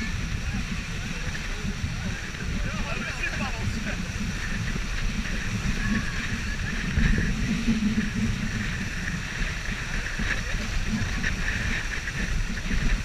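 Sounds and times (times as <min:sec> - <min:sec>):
water rushing and splashing: 0:00.0 - 0:13.0
wind buffeting microphone: 0:00.0 - 0:13.0.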